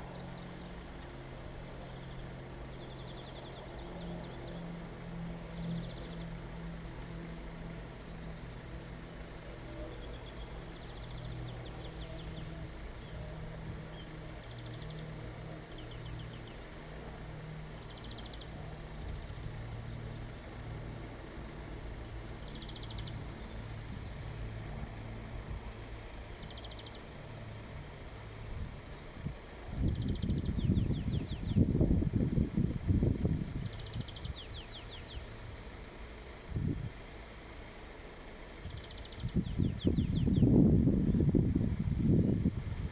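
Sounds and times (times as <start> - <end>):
low engine hum: 0.0 - 42.9.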